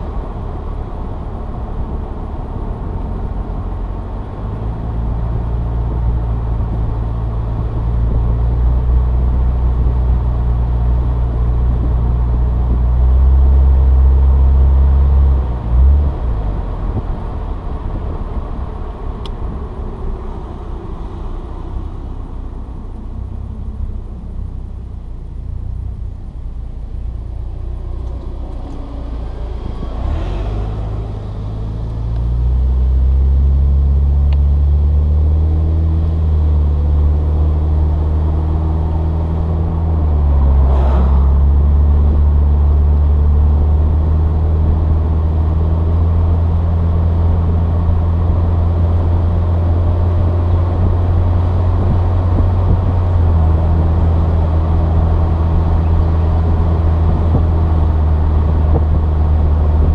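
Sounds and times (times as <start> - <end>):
car engine accelerating: 0.0 - 59.9
road noise: 0.0 - 59.9.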